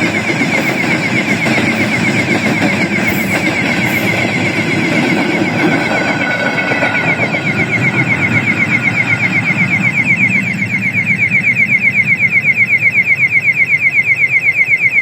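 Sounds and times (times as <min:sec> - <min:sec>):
passing train rumble: 0:00.0 - 0:13.4
rapid electronic warning chirp: 0:00.0 - 0:15.0.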